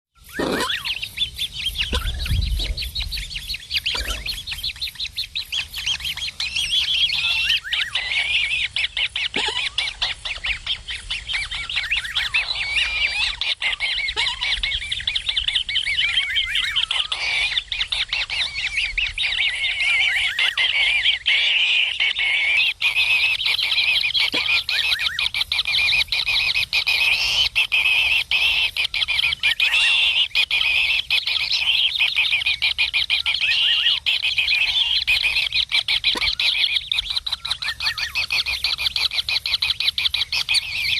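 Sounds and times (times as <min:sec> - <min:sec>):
nestlings harsh chirping: 0:00.2 - 0:40.9.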